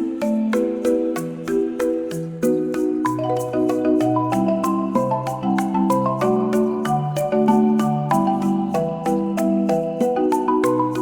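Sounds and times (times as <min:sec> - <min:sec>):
marimba-like mallet tune: 0:00.0 - 0:11.0.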